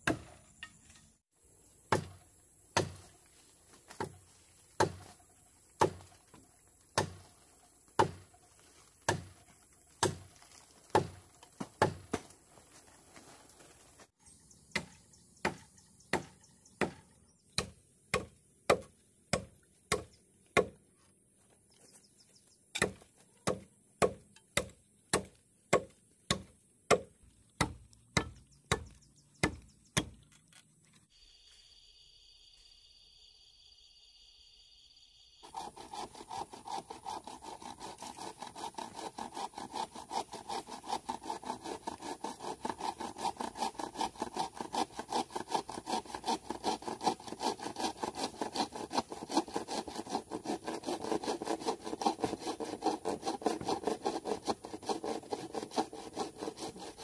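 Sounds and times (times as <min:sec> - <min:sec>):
blade chopping bamboo: 0:00.0 - 0:01.1, 0:01.8 - 0:12.4, 0:14.7 - 0:20.8, 0:22.7 - 0:30.6, 0:35.4 - 0:57.0.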